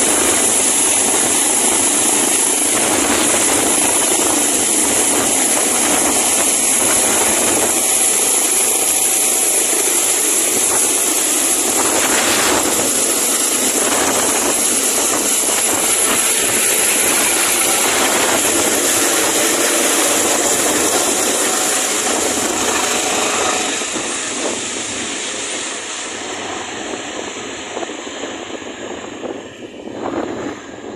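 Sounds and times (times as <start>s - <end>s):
helicopter turbine and rotor: 0.0s - 30.9s.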